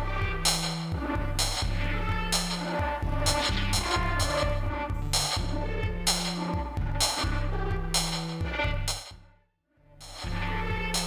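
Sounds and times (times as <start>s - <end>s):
electronic drum beat: 0.0s - 9.1s, 10.0s - 11.0s
looping synth bass line: 0.0s - 9.1s, 10.0s - 11.0s.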